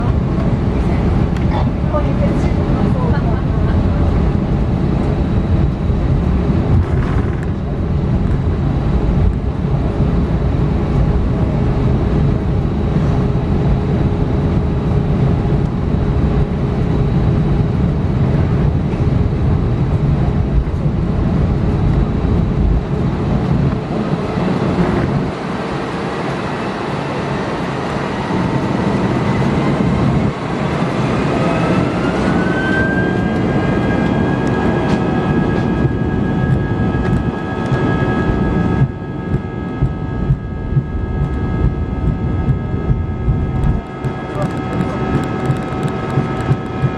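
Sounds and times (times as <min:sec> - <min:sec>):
jet engines at takeoff power: 0:00.0 - 0:46.9
runway rumble: 0:00.0 - 0:46.9.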